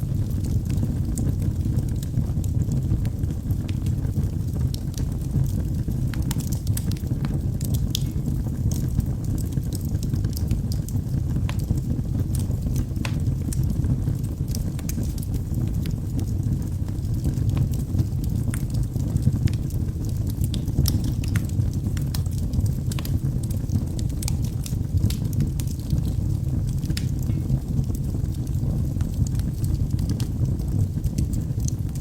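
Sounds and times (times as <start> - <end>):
low rumble of flames: 0.0 - 32.0.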